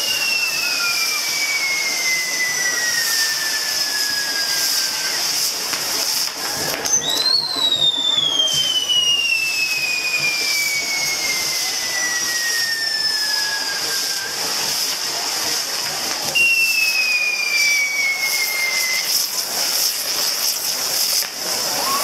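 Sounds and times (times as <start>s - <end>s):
falling firework whistles: 0.0s - 22.0s
hiss of burning fireworks: 0.0s - 22.0s.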